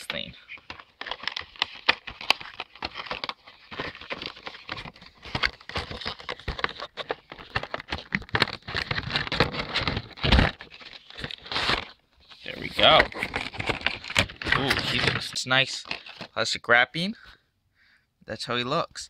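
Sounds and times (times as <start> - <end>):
cardboard packaging rustling: 0.0 - 16.4.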